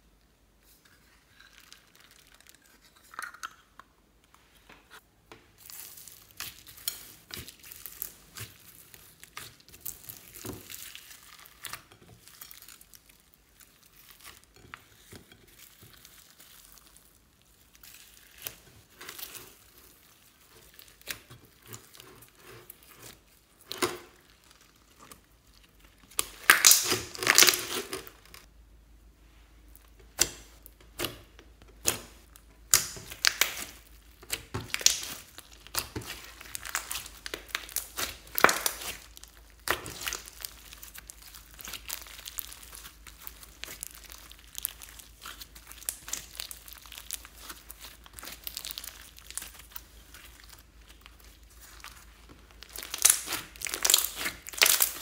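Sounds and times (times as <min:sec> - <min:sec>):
slime crackling squelches: 0:04.4 - 0:55.0.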